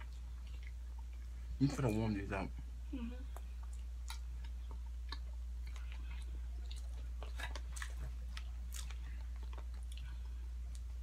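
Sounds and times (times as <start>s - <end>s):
chewing and crunching food: 0.0s - 2.2s, 3.2s - 11.0s.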